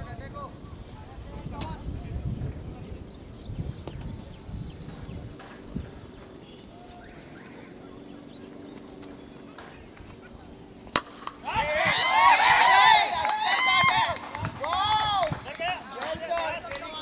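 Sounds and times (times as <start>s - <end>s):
faint outdoor background noise: 0.0s - 17.0s
insects droning: 0.0s - 17.0s.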